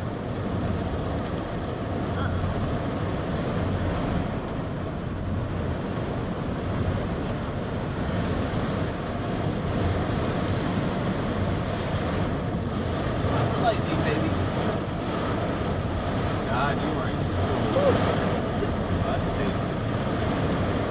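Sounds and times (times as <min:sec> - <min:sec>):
rain: 0:00.0 - 0:20.9.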